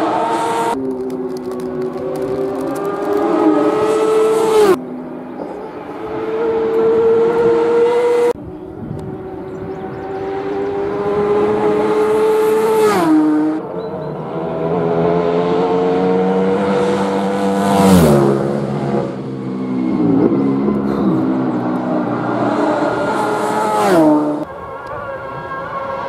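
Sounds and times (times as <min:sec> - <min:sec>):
racing motorcycles passing: 0:00.0 - 0:26.0.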